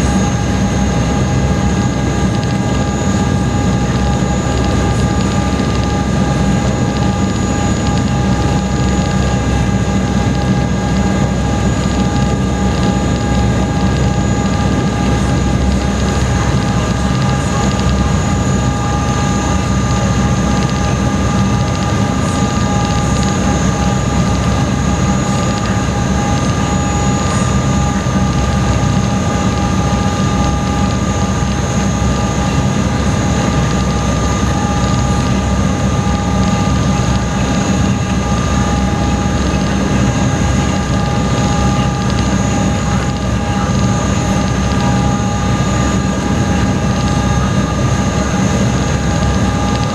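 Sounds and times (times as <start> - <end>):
ferry engine drone: 0.0 - 49.9
steady whining tones: 0.0 - 49.9.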